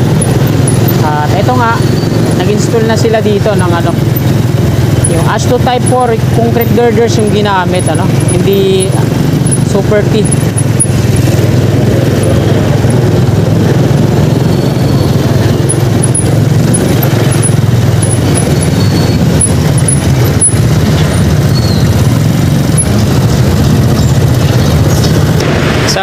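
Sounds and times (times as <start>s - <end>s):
street traffic engine rumble: 0.0s - 26.0s.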